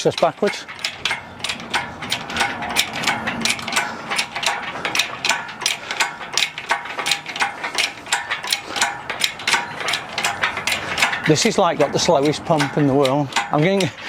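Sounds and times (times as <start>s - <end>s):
hydraulic lift pump clanking: 0.0s - 14.0s.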